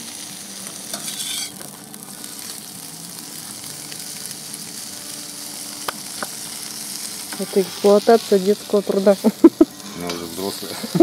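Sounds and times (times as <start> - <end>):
pork fat sizzling and crackling: 0.0 - 11.0.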